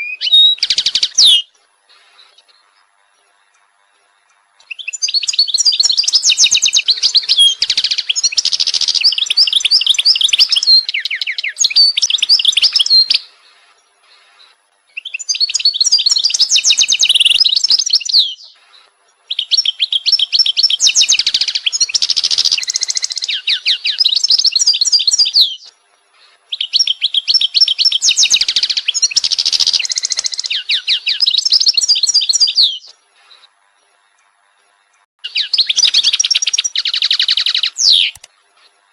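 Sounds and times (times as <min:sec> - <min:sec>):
songbird singing rapid chirps: 0:00.0 - 0:38.9.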